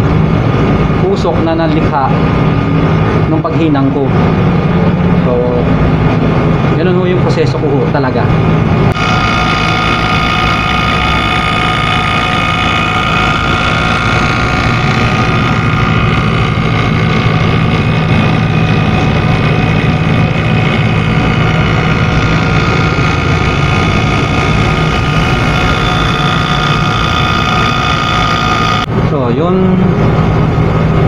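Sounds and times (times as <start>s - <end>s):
vacuum pump running: 0.0s - 29.2s.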